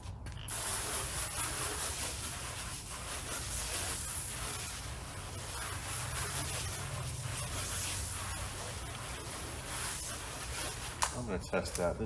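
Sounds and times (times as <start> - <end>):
hiss of sprayer: 0.5 - 11.1.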